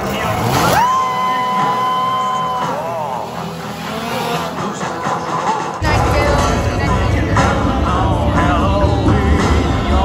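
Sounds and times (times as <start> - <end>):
music with heavy deep bass: 0.0 - 10.0.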